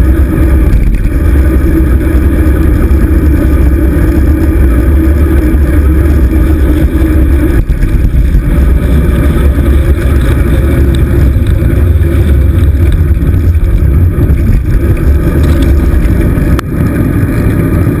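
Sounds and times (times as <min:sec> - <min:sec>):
tyre and road noise: 0:00.0 - 0:18.0
wind buffeting microphone: 0:00.0 - 0:18.0.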